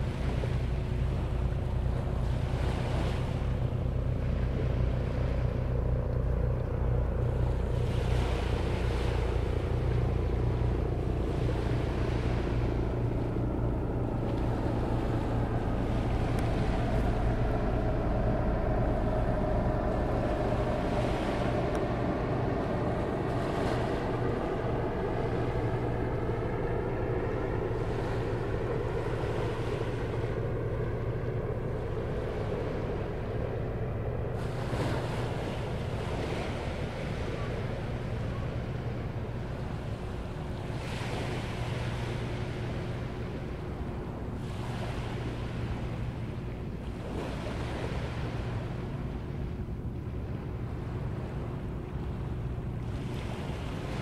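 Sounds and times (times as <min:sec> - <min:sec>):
boat engine humming: 0:00.0 - 0:54.0
small waves washing: 0:00.0 - 0:54.0.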